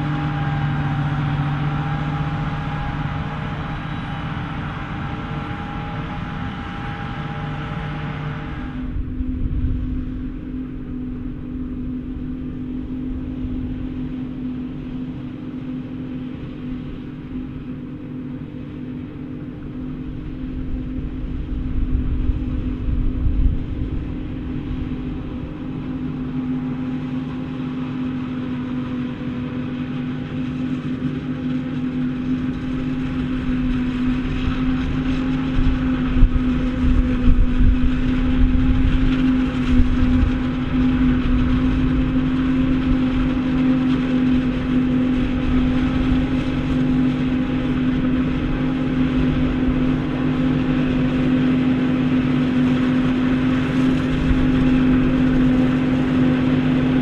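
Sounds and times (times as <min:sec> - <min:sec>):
heavy farm machinery running: 0:00.0 - 0:57.0.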